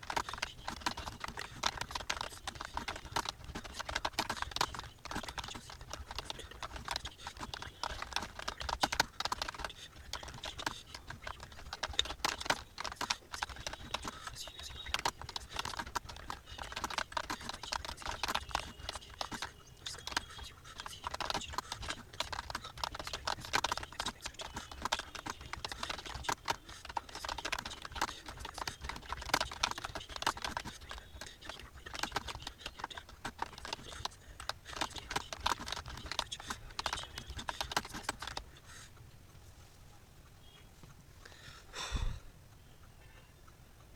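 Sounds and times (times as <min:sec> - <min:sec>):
fast typing on keyboard: 0:00.0 - 0:38.8.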